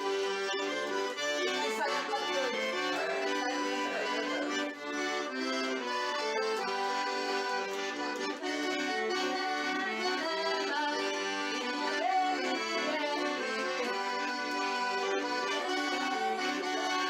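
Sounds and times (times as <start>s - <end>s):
accordion playing a tune: 0.0s - 17.0s.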